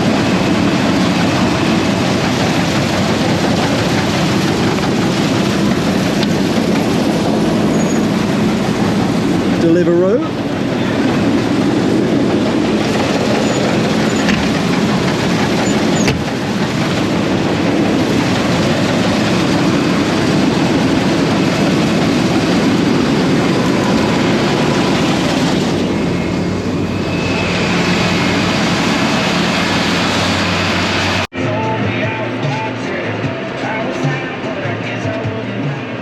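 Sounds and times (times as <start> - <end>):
farm machinery droning: 0.0 - 31.3.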